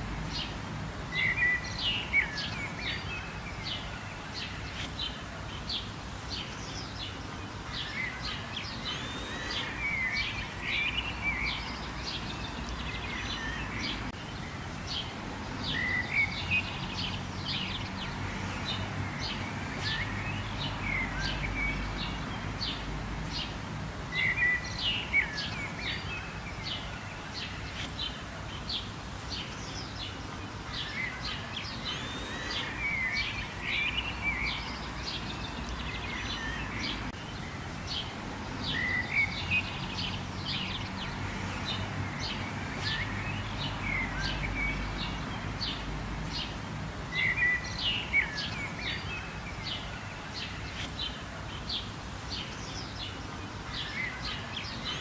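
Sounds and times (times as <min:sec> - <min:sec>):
background hiss: 0:00.0 - 0:55.0
birds chirping chorus: 0:00.0 - 0:55.0.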